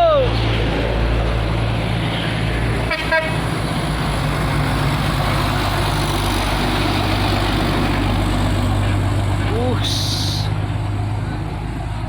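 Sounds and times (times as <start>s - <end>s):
road noise: 0.0s - 12.0s
truck diesel engine under load: 0.0s - 12.0s.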